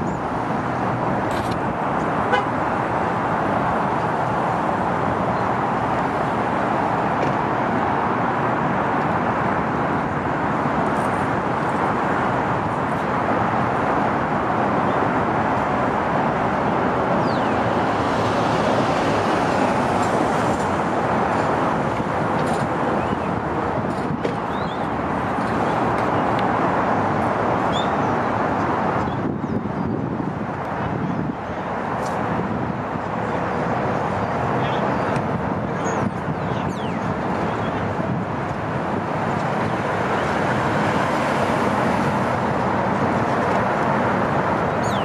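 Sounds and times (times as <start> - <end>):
passing vehicles rushing: 0.0 - 45.0.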